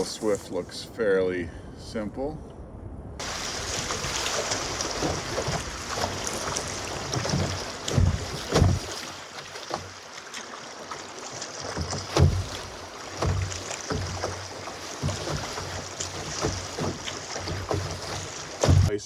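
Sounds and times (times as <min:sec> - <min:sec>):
dull thumps against canoe hull: 0:03.2 - 0:18.9
rushing water: 0:03.2 - 0:19.0.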